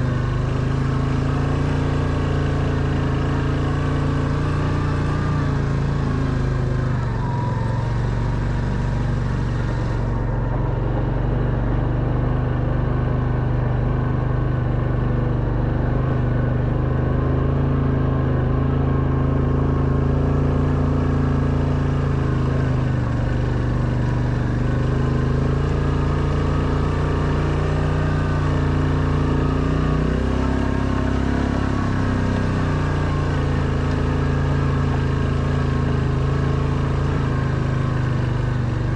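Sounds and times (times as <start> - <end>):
quad bike engine under load: 0.0 - 38.9.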